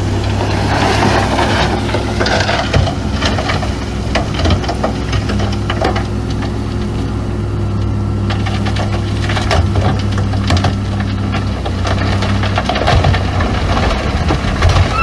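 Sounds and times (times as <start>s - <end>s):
stones cracking and crunching: 0.0s - 6.9s, 8.2s - 15.0s
diesel machinery running: 0.0s - 15.0s.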